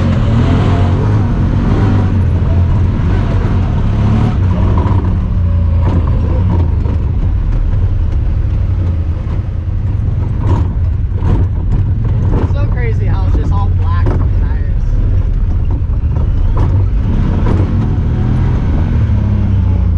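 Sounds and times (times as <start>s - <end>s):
engine running while driving: 0.0s - 19.9s.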